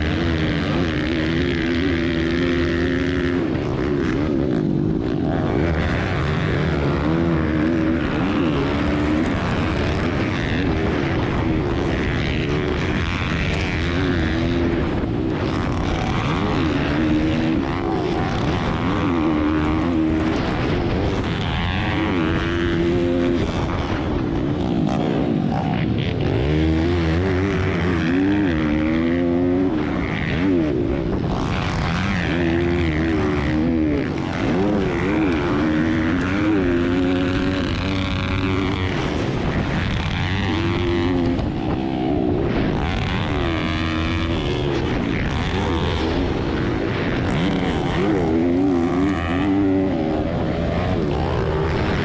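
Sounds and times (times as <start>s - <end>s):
pit bike engines revving: 0.0s - 52.0s.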